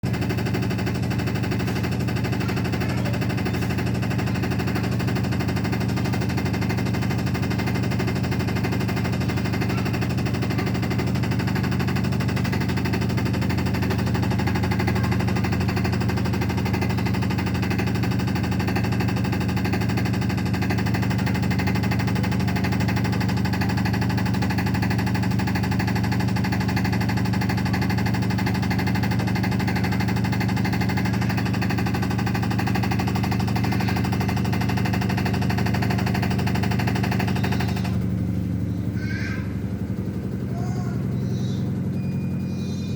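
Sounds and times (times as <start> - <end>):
washing machine spin cycle: 0.0 - 42.9.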